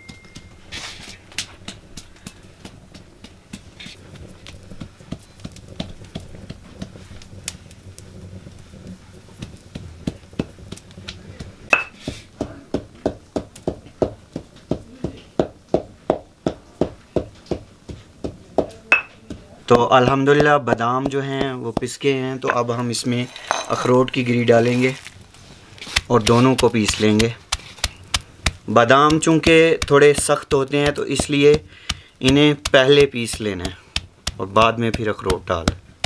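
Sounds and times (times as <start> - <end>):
pestle pounding in stone mortar: 1.4 - 25.2, 25.8 - 36.0.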